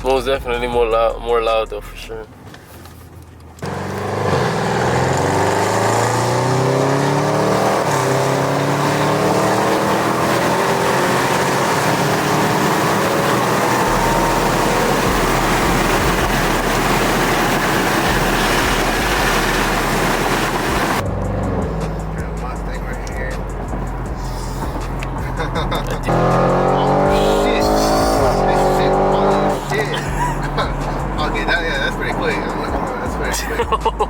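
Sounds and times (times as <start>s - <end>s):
car engine accelerating hard: 3.6s - 34.0s.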